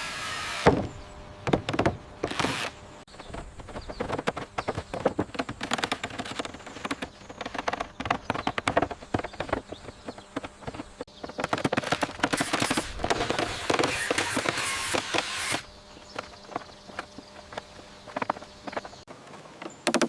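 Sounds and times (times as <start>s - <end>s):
construction knocks and clatters: 0.6s - 20.0s.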